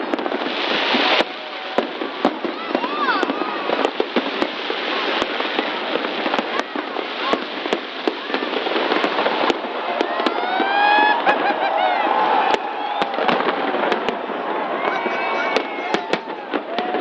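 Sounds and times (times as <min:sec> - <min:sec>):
crowd shouting: 0:00.0 - 0:17.0
fireworks crackling and banging: 0:00.0 - 0:17.0.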